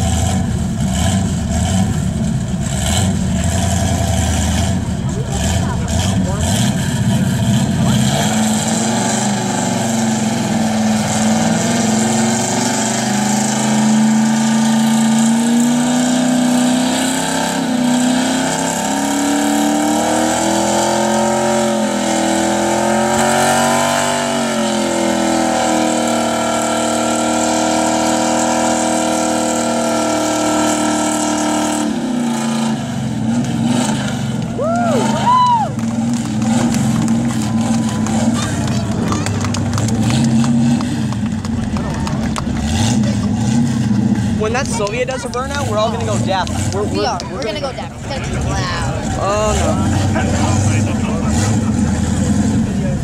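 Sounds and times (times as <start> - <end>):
engine revving hard: 0.0 - 53.0.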